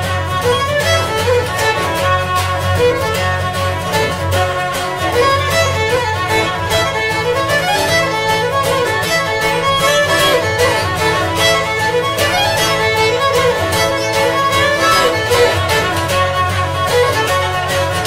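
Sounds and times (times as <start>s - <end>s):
fiddle melody: 0.0s - 18.0s
steady beat: 0.0s - 18.0s.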